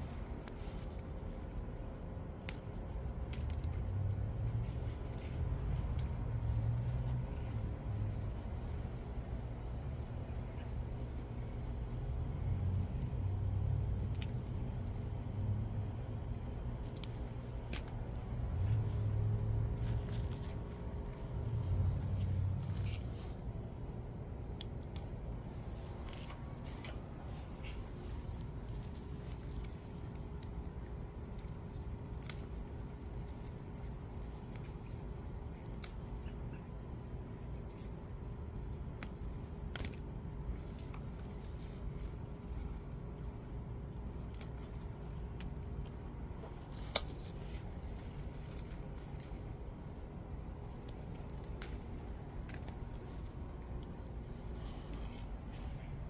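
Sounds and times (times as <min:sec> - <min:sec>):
low outdoor background: 0:00.0 - 0:56.0.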